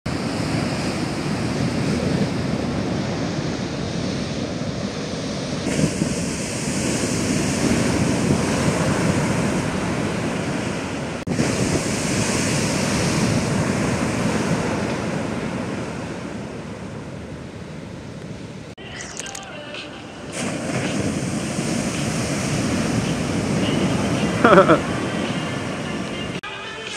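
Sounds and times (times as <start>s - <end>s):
wind buffeting microphone: 0.1s - 18.8s, 20.3s - 26.4s
surf crashing: 0.1s - 26.9s.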